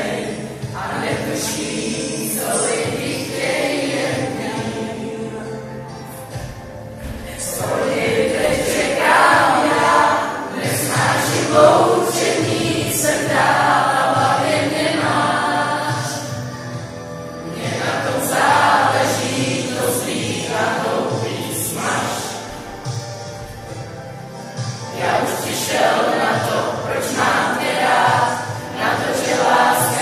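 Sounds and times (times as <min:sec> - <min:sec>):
group of teenagers singing: 0:00.0 - 0:23.8, 0:24.5 - 0:30.0.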